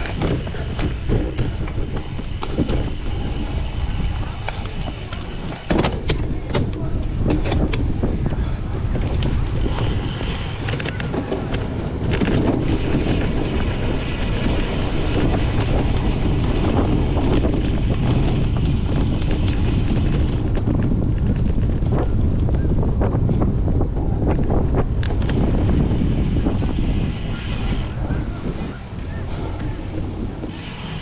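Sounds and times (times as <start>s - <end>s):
bike rattling and clicking: 0.0s - 31.0s
wind on microphone: 0.0s - 31.0s.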